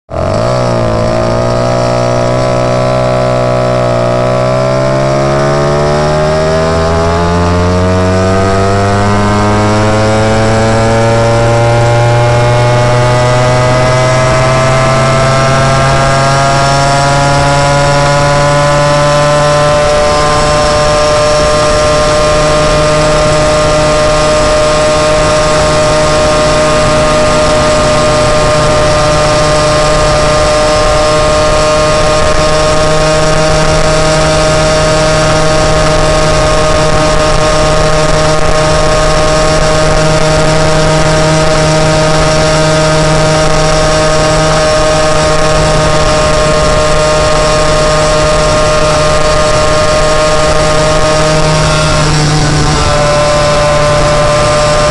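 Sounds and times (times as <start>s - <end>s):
moped engine accelerating: 0.0s - 54.9s.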